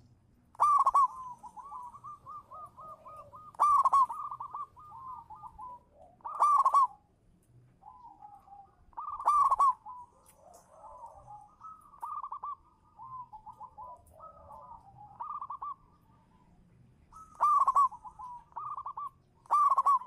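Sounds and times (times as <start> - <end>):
dove cooing: 0.0 - 7.1, 7.8 - 20.0.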